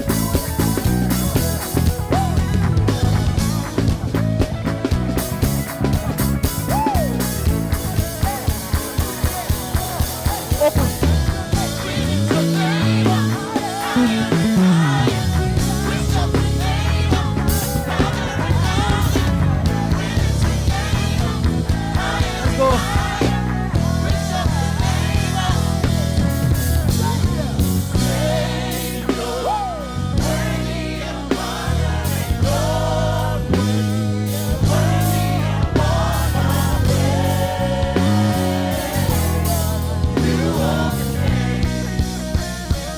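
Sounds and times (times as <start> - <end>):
bass guitar: 0.0 - 42.9
drum kit: 0.0 - 42.9
guitar: 0.0 - 42.9
singing: 6.5 - 42.9.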